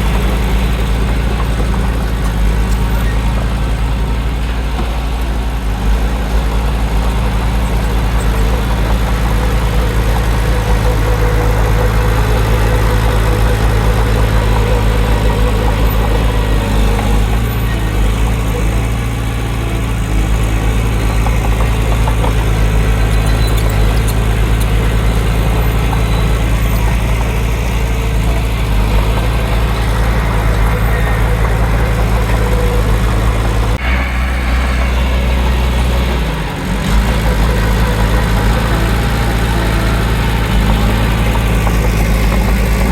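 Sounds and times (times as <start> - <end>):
diesel engine running under load: 0.0 - 42.9.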